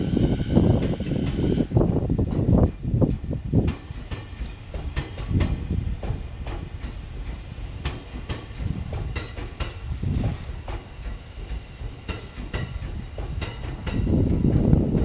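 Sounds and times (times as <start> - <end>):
train low rumble: 0.0 - 15.0
train wheels clicking over rail joints: 0.0 - 15.0.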